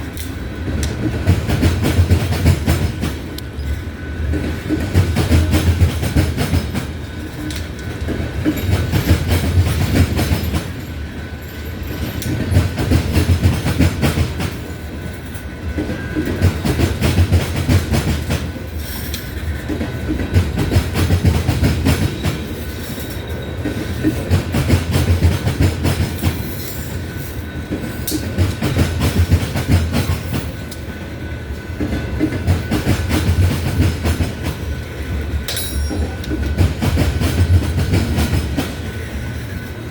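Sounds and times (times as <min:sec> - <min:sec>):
heavy train rumble: 0:00.0 - 0:39.9
train wheels clacking over rails: 0:00.0 - 0:39.9.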